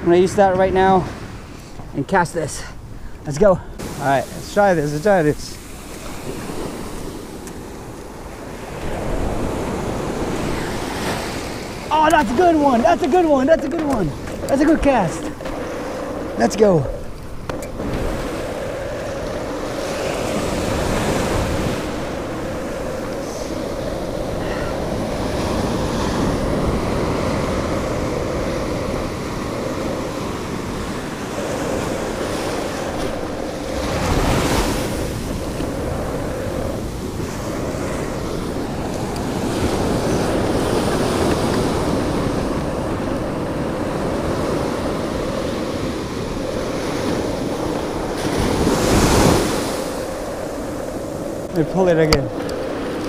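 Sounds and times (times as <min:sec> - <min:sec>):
surf breaking on a beach: 0:00.0 - 0:53.0
wind buffeting microphone: 0:00.0 - 0:53.0.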